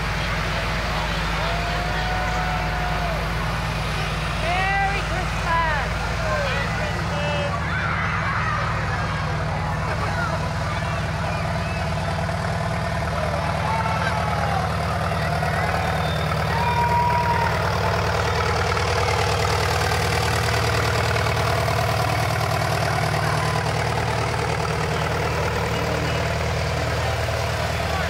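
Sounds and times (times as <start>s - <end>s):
large vehicle engine idling: 0.0s - 28.0s.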